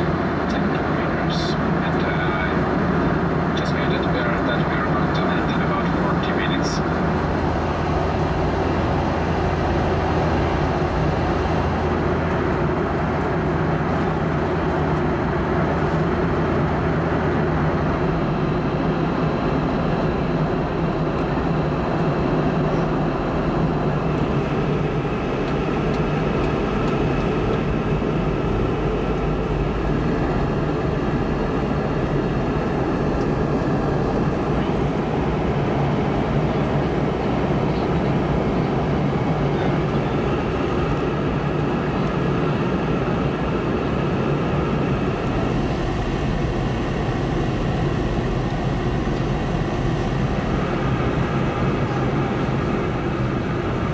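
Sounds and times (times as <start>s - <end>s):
jet engine drone: 0.0s - 53.9s
low hum: 0.0s - 53.9s.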